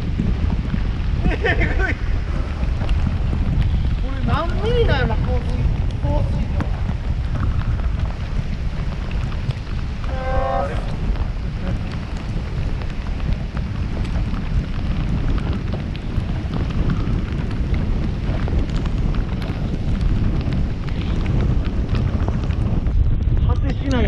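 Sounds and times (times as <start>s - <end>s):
rain spattering: 0.0s - 24.0s
wind buffeting microphone: 0.0s - 24.0s.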